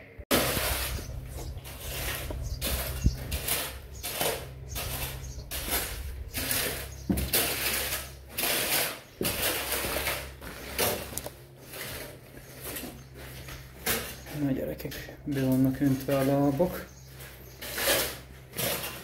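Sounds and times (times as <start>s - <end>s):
steady low hum: 0.0s - 18.9s
wet concrete scraping: 0.3s - 19.0s.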